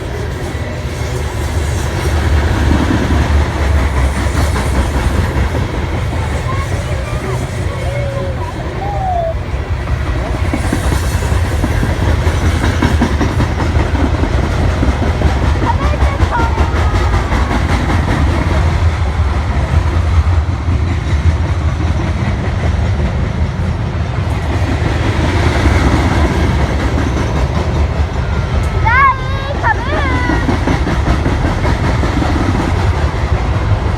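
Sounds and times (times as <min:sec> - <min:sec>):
train rumbling past: 0:00.0 - 0:33.9
wheels clattering on rails: 0:00.0 - 0:33.9.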